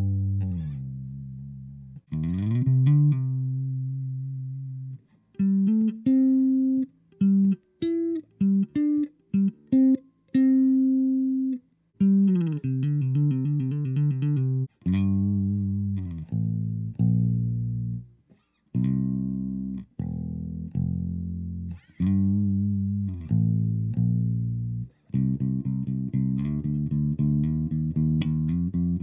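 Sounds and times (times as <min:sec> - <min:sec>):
electric bass funk riff: 0:00.0 - 0:18.1, 0:18.7 - 0:29.0.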